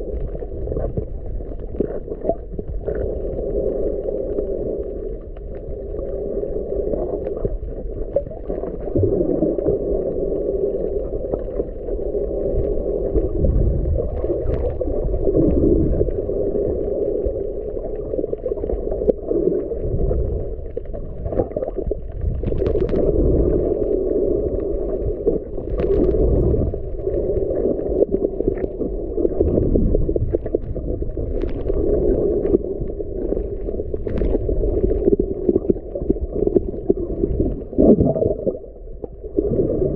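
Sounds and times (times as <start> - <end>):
deep rumbling swells: 0.0 - 39.9
muffled underwater water rush: 0.0 - 39.9.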